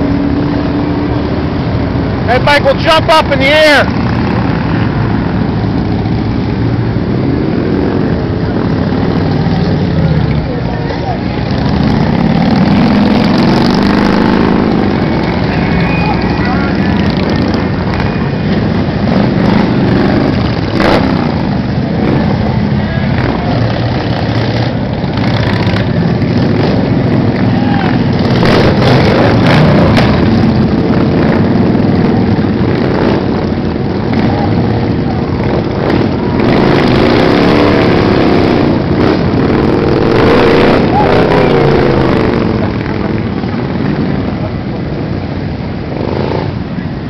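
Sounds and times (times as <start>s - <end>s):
motorcycles riding past: 0.0s - 47.0s.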